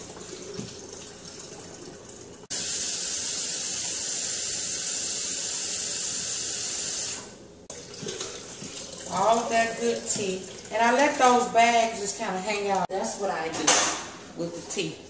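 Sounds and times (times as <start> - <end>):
tap water running: 0.0 - 12.9.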